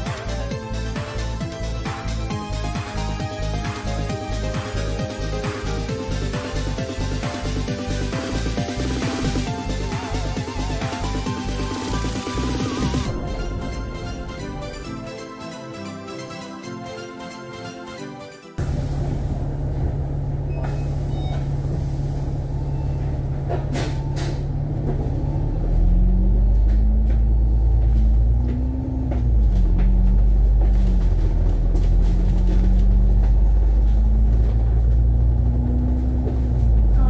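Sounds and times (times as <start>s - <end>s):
bus diesel engine: 0.0s - 15.9s, 18.6s - 37.0s.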